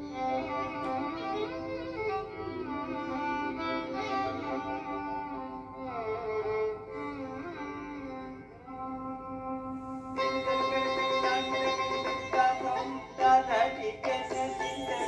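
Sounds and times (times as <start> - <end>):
slow violin melody: 0.0 - 15.0.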